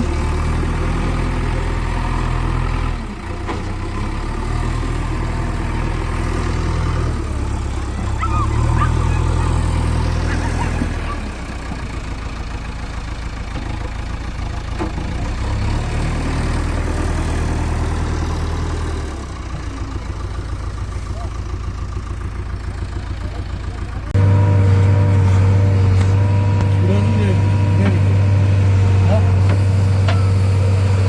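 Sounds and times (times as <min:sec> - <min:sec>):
diesel engine revving under load: 0:00.0 - 0:31.0.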